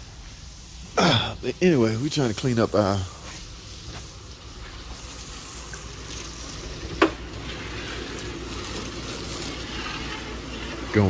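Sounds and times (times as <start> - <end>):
water spraying from hose: 0.0 - 11.0.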